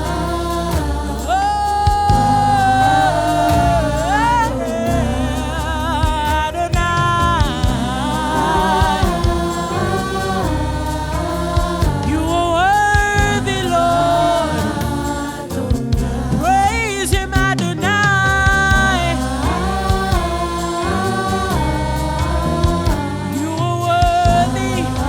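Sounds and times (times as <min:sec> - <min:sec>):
gospel singers holding long notes: 0:00.0 - 0:25.0
keyboard chords and bass: 0:00.0 - 0:25.0.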